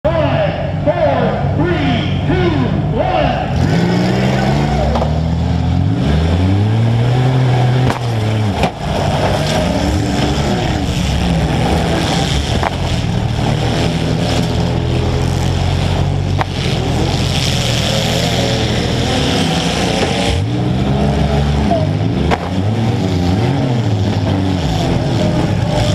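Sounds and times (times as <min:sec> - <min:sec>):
car engine revving: 0:00.6 - 0:25.9.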